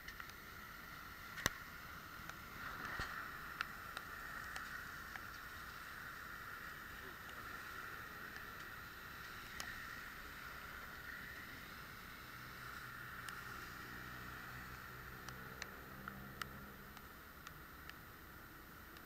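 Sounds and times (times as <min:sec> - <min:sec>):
light ticks: 0:00.0 - 0:19.0
rain hissing: 0:00.0 - 0:19.0
vehicle engine hum: 0:00.0 - 0:19.0
wet traffic: 0:00.0 - 0:19.0.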